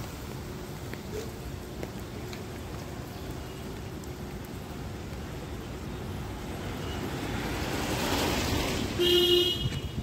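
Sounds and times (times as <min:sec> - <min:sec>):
steady rain: 0:00.0 - 0:10.0
vehicle tyre hiss on wet road: 0:00.0 - 0:10.0.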